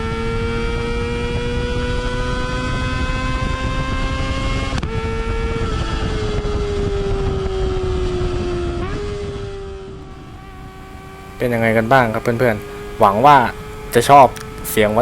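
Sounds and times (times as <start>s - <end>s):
motorcycle engine revving: 0.0s - 15.0s
wind rumble: 0.0s - 15.0s.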